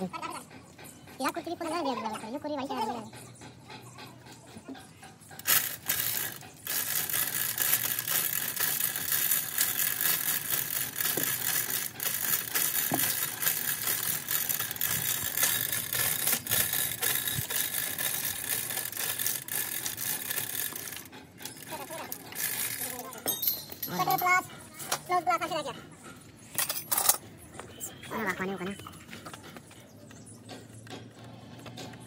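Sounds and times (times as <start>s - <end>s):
chain hoist chain rattling: 0.0s - 28.9s.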